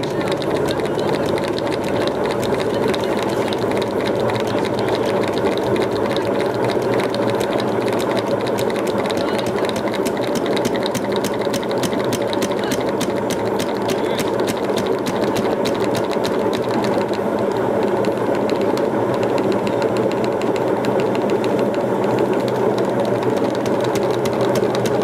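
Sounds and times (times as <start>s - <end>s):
regular mechanical ticking: 0.0s - 25.0s
washing machine running: 0.0s - 25.0s.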